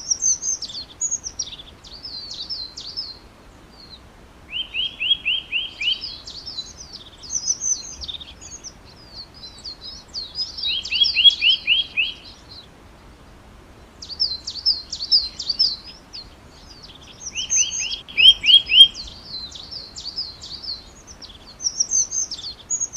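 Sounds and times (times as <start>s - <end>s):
songbird singing: 0.0s - 22.9s.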